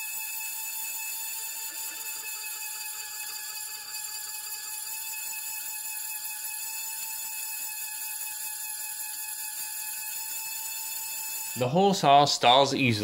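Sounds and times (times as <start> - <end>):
hole saw whining through steel: 0.0 - 13.0.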